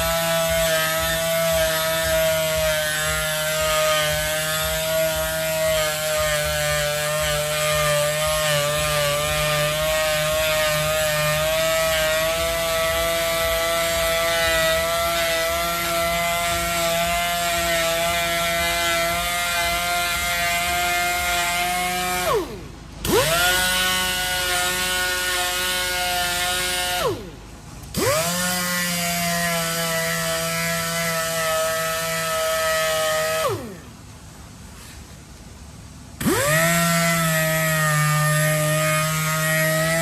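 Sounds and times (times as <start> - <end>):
power sander whining: 0.0 - 34.0, 36.2 - 40.0.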